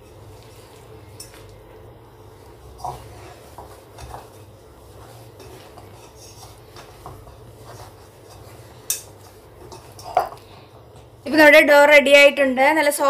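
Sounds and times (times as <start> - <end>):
hand kneading dough: 0.0 - 11.3.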